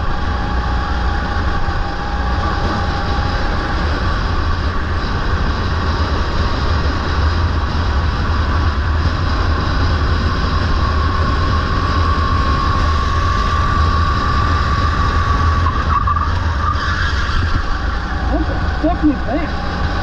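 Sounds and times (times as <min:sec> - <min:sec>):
go-kart engine drone: 0:00.0 - 0:20.0
steady high whine: 0:00.0 - 0:20.0
wind rumble on microphone: 0:00.0 - 0:20.0.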